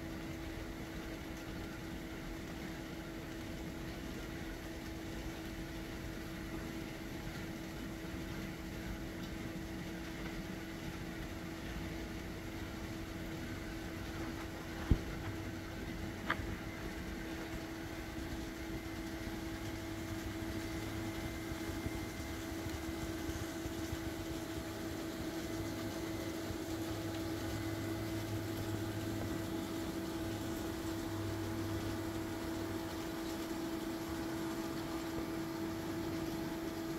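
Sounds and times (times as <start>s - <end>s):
mechanical hum with low rumble: 0.0s - 36.9s.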